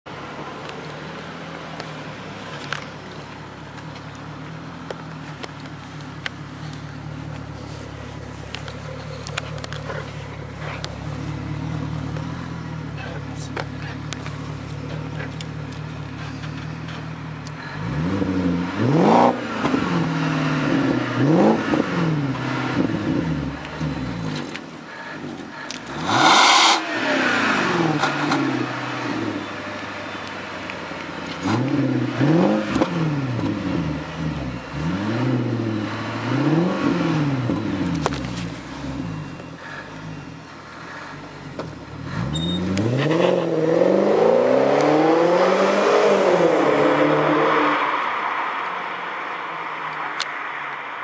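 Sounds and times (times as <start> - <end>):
car engine idling and revving: 0.0 - 51.0.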